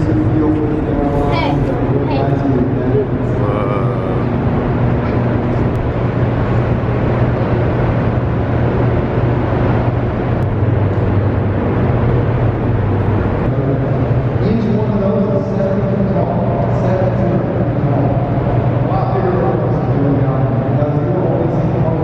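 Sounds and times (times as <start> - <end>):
loud low hum: 0.0 - 22.0.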